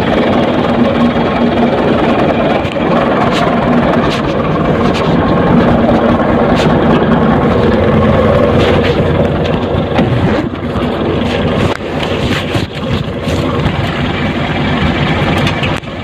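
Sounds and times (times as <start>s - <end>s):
truck engine idling: 0.0s - 16.0s
wind rumble on microphone: 0.0s - 16.0s.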